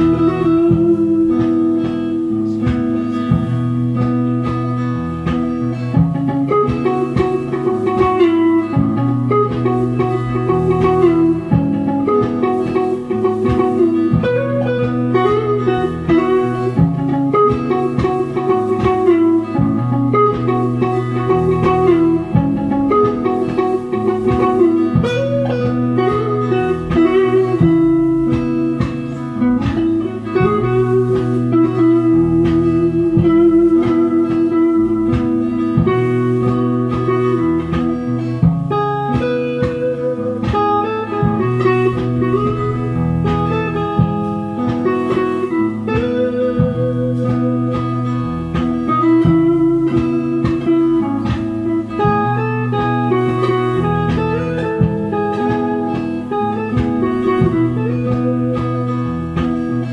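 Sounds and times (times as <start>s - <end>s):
electric guitar lead melody: 0.0s - 59.9s
low bass notes: 0.0s - 59.9s
repeating guitar chords: 0.0s - 59.9s.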